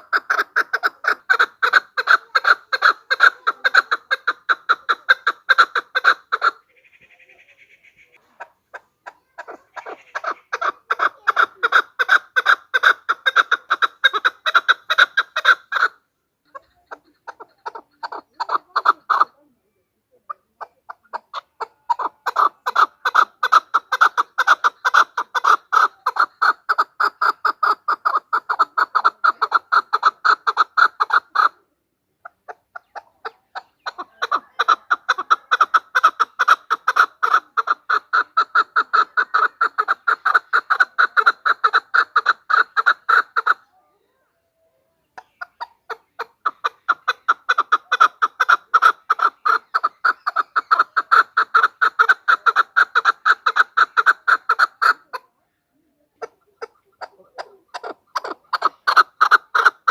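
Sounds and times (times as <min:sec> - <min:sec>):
partridge chuck calls: 0:00.0 - 0:43.7, 0:45.0 - 0:59.9.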